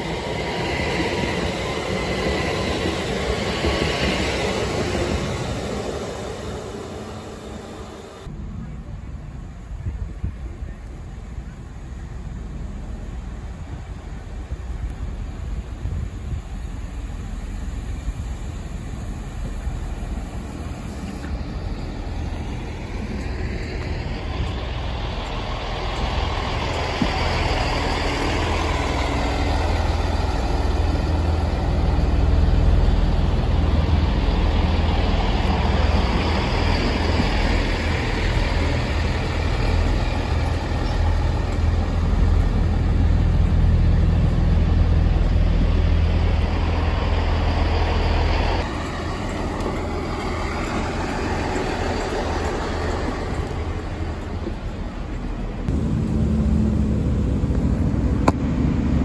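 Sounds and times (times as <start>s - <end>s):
diesel engine drone: 3.0s - 59.0s.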